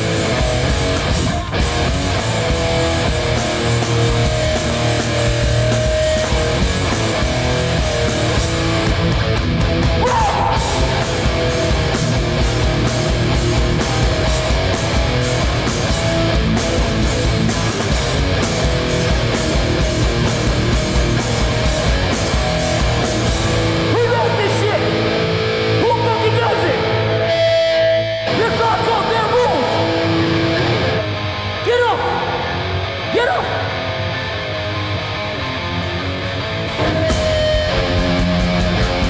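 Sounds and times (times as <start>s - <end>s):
hardcore punk band playing: 0.0s - 39.0s.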